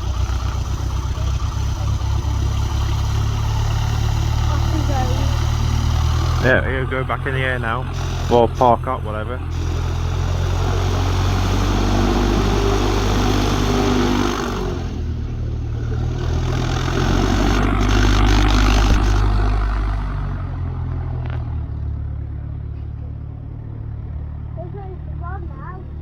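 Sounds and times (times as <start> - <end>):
propeller aircraft engine: 0.0 - 26.0.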